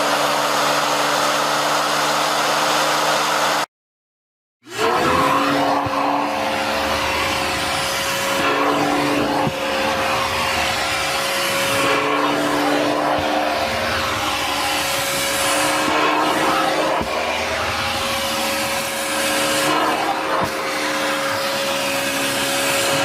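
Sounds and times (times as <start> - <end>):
vacuum cleaner motor: 0.0 - 3.7, 4.6 - 23.0.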